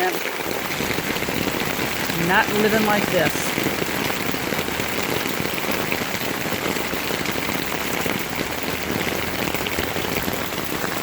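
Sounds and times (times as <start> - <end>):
heavy rain on floodwater: 0.0 - 11.0.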